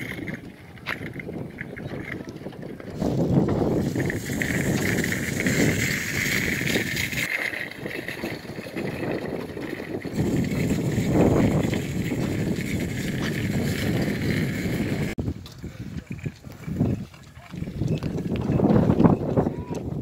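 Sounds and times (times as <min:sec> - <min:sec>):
bicycles rattling on pavement: 0:00.0 - 0:20.0.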